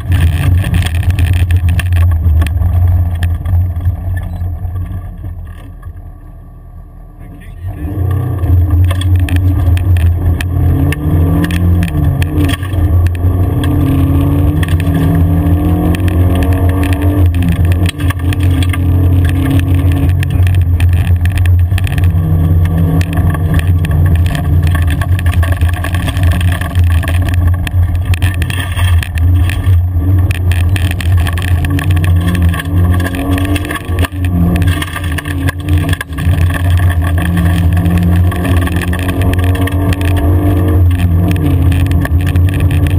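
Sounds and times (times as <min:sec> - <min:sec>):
car engine droning: 0:00.0 - 0:42.9
gravel crunching under tyres: 0:00.0 - 0:42.9.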